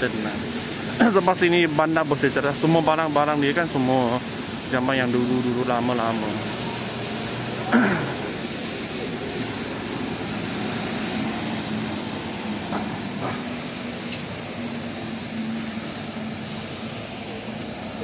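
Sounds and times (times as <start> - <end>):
buses and cars passing: 0.0 - 18.0
low engine hum: 0.0 - 18.0.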